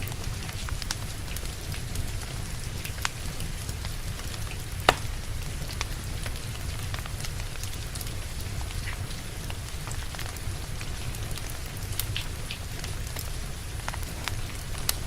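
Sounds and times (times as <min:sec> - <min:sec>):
rain pattering: 0:00.0 - 0:15.0
wood fire crackling: 0:00.0 - 0:15.0.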